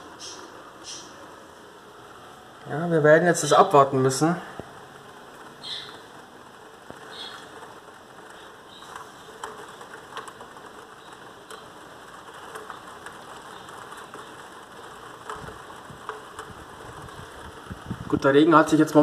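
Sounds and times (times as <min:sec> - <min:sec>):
heavy rain on pavement: 0:00.0 - 0:19.0
raindrops ticking close by: 0:00.0 - 0:19.0.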